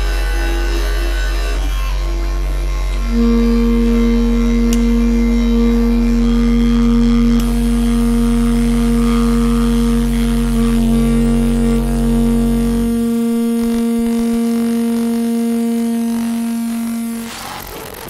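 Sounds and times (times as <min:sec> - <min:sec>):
deep low hum: 0:00.0 - 0:17.6
layered drone tones: 0:00.0 - 0:18.0.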